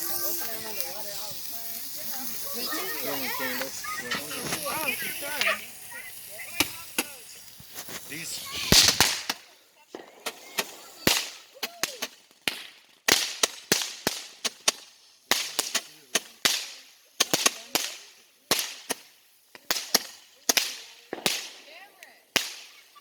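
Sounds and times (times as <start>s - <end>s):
fireworks cracking and popping: 0.0s - 23.0s
fireworks hissing: 0.0s - 23.0s.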